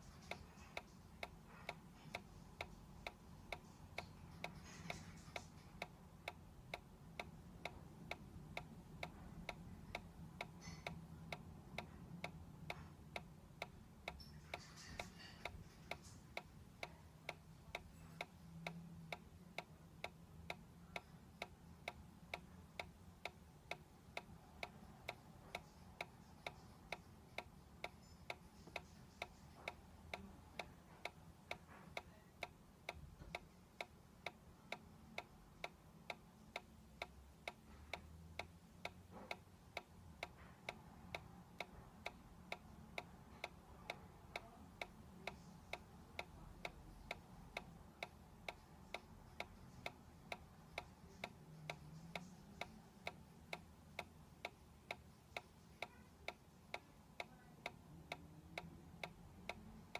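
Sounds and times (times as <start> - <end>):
toy ticking: 0.0 - 59.9.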